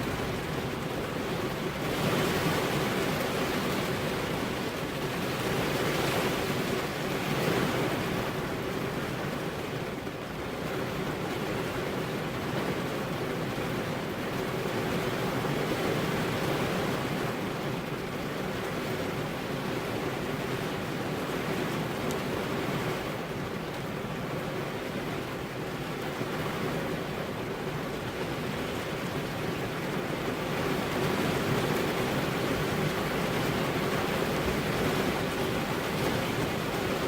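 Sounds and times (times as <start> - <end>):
rain on car windows: 0.0 - 37.0.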